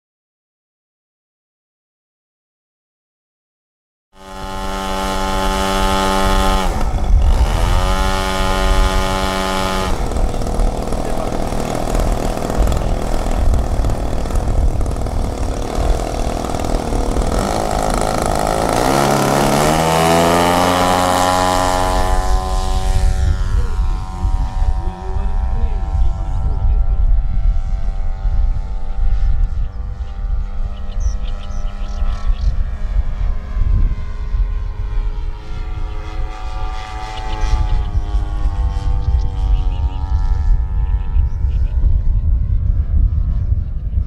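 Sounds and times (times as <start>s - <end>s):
model airplane engine: 4.2s - 44.0s.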